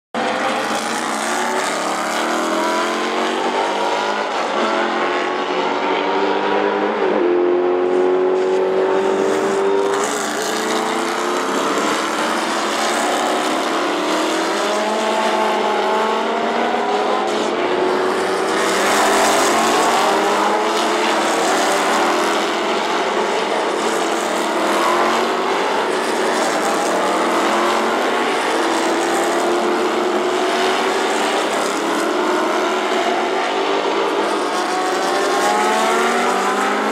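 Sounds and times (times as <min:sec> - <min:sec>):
racing cars accelerating: 0:00.2 - 0:36.9.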